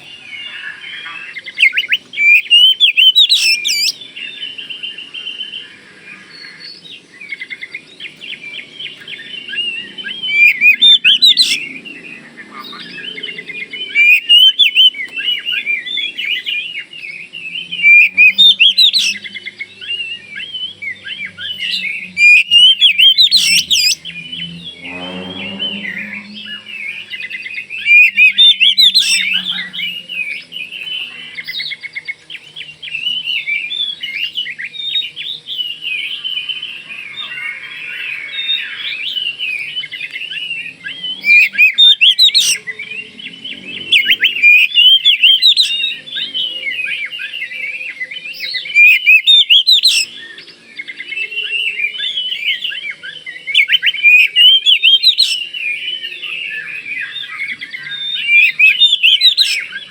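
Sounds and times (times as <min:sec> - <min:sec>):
bird singing varied phrases: 0:00.0 - 0:59.9.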